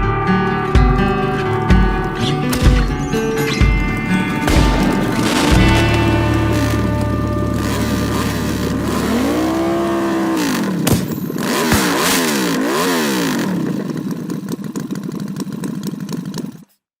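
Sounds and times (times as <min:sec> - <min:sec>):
motorcycle engine revving: 0:00.6 - 0:16.7.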